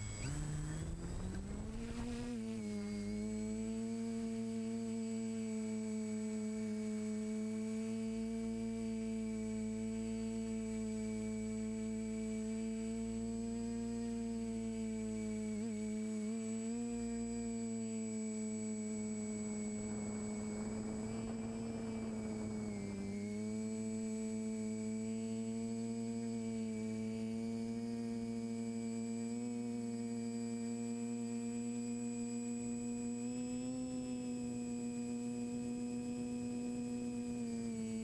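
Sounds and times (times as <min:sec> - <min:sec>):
drone motors humming: 0:00.0 - 0:38.0.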